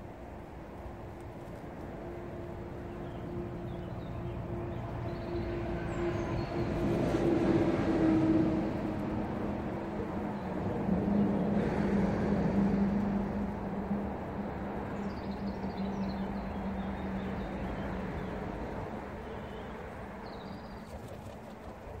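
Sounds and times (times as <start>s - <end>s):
passing vehicle rumble: 1.6s - 22.0s.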